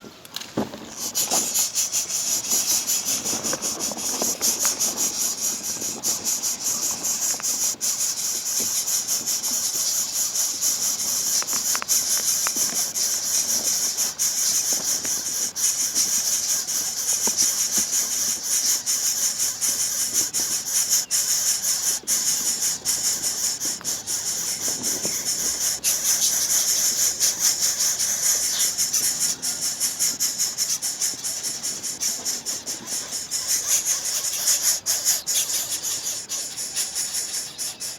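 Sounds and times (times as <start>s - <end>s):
high pulsing buzzing hiss: 0.1s - 37.9s.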